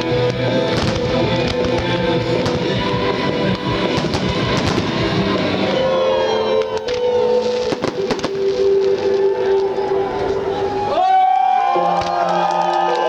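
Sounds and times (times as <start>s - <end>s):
fireworks bursting: 0.0s - 10.8s
loud music: 0.0s - 11.1s.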